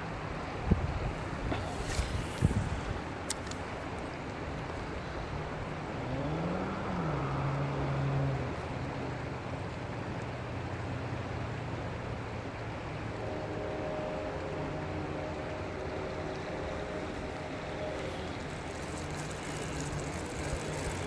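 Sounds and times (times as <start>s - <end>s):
river water rushing: 0.0s - 21.0s
motor vehicle engine: 1.1s - 21.0s.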